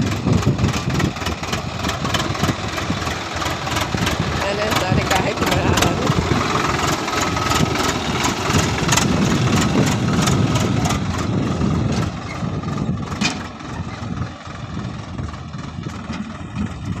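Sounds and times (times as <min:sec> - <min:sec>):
tractor engine clattering: 0:00.0 - 0:17.0.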